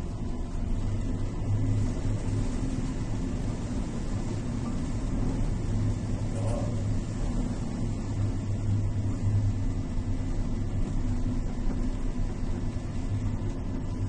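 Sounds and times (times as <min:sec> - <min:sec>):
heavy seas breaking against hull: 0:00.0 - 0:14.0
ship engine running: 0:00.0 - 0:14.0
wind: 0:00.0 - 0:14.0.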